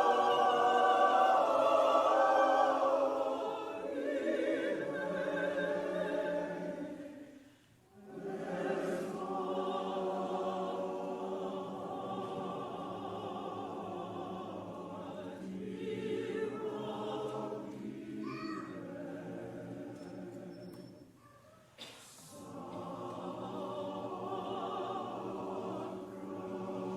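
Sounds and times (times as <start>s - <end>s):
choir singing: 0.0s - 21.2s, 21.8s - 26.9s.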